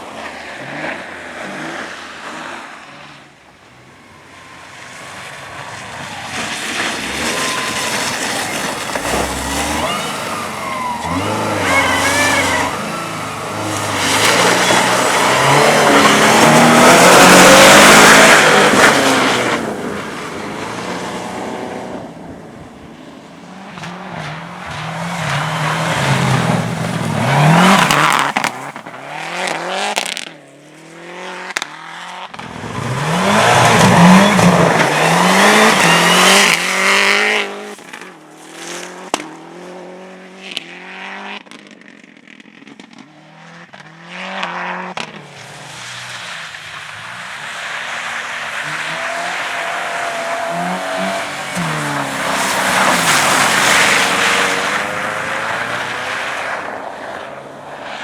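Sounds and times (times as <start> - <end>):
race car engines revving: 0.0 - 41.5, 42.6 - 58.0.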